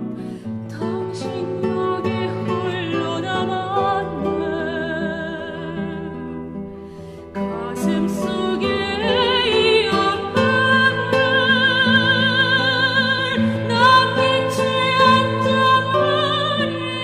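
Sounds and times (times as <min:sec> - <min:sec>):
soprano singing a slow ballad: 0:00.0 - 0:17.0.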